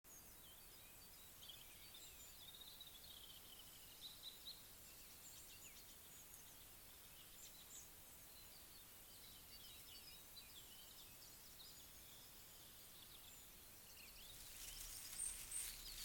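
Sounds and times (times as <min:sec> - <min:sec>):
faint bird chirps: 0:00.1 - 0:16.0
low background hiss: 0:00.1 - 0:16.0.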